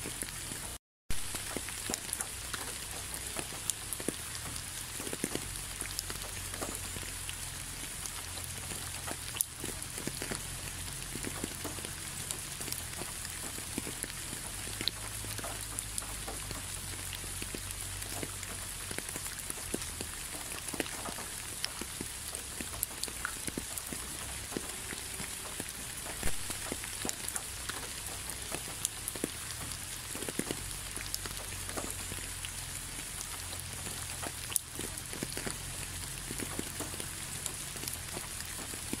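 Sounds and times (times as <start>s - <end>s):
raindrops ticking: 0.0s - 39.0s
steady rain hiss: 0.0s - 39.0s.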